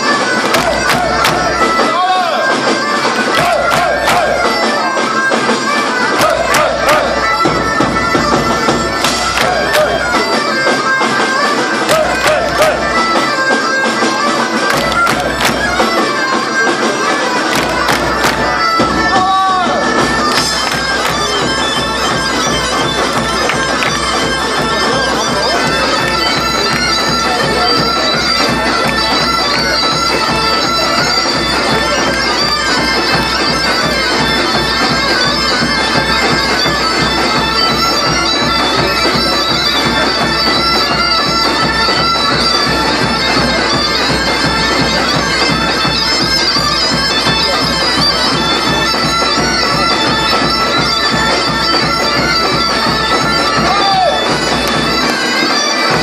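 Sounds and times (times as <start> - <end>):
steady drum beat: 0.0 - 55.3
bagpipes playing a tune: 0.0 - 56.0.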